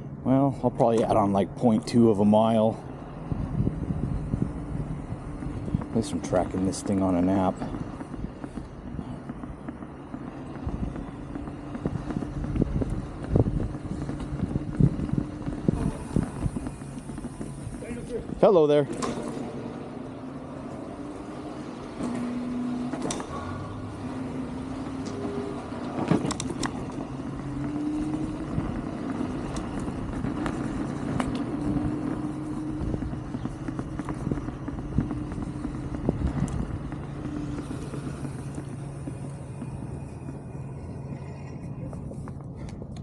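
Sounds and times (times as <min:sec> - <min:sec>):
wind and tyre noise: 0:00.0 - 0:43.0
electric scooter motor whine: 0:01.1 - 0:43.0.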